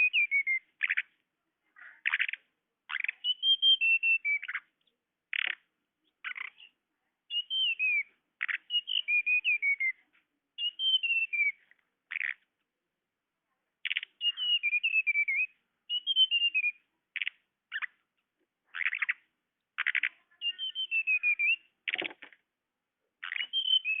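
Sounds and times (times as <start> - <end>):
bird calls: 0.0 - 1.2, 1.8 - 10.0, 10.6 - 12.5, 13.8 - 18.0, 18.7 - 22.4, 23.2 - 24.0.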